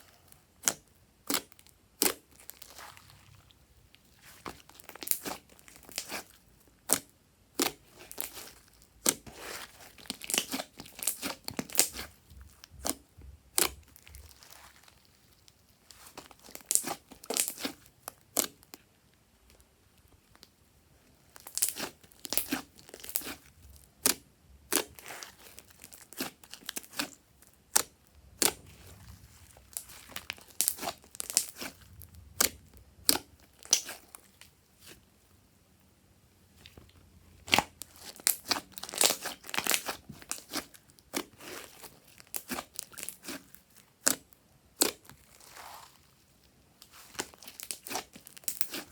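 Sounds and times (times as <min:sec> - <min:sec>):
slime crackling and popping: 0:00.1 - 0:03.3, 0:04.1 - 0:18.8, 0:21.3 - 0:35.0, 0:36.6 - 0:46.1, 0:46.8 - 0:48.9.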